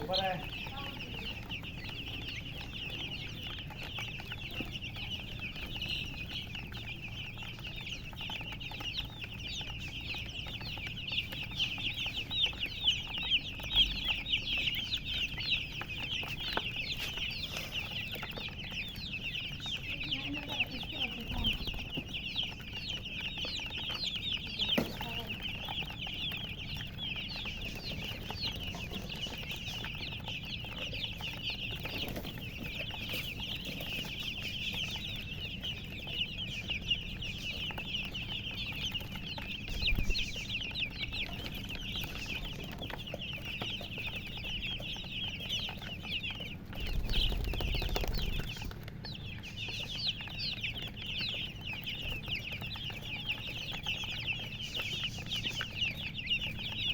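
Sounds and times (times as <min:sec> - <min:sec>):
baby chicks peeping: 0:00.0 - 0:56.9.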